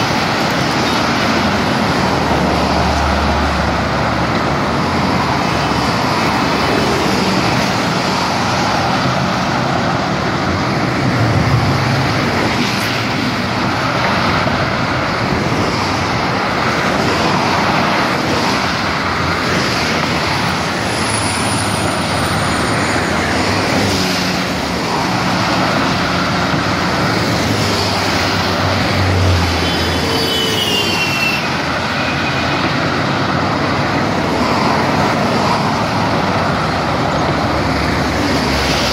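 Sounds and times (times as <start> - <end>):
road and traffic noise: 0.0 - 38.9.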